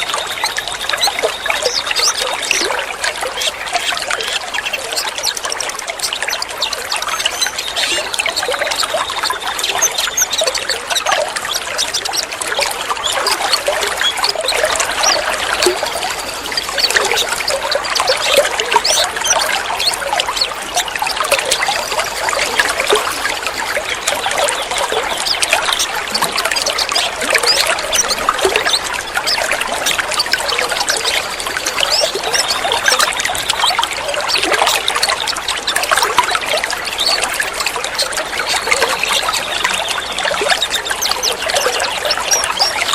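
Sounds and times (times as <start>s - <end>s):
water trickling and splashing: 0.0s - 42.9s.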